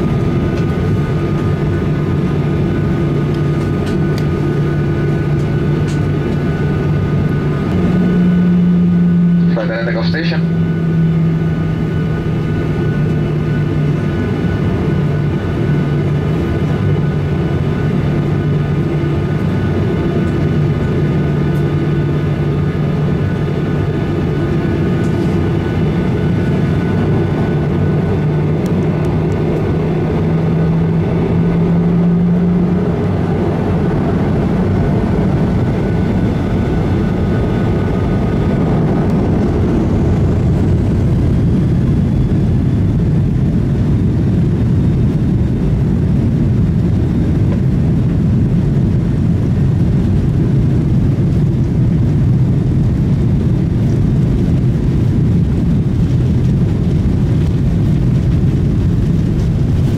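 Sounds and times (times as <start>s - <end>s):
jet engine rumble and hum: 0.0s - 59.9s.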